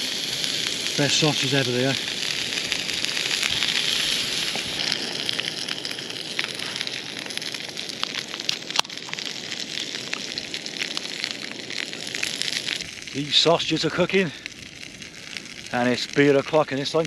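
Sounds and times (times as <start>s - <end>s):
sausages sizzling in a pan: 0.0s - 17.0s.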